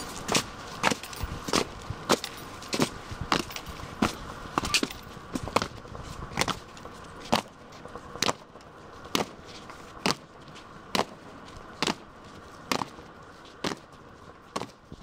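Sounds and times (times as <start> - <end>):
boots marching on stone paving: 0.0 - 15.0.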